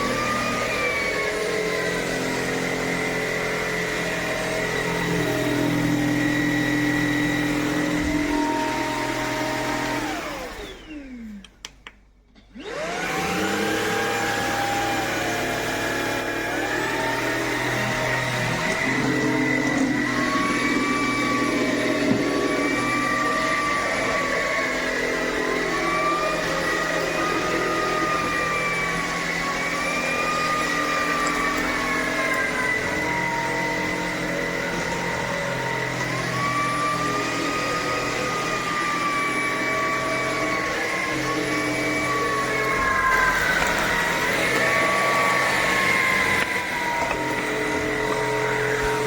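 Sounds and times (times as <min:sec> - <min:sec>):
vacuum cleaner motor whine: 0:00.0 - 0:11.6, 0:12.4 - 0:49.0.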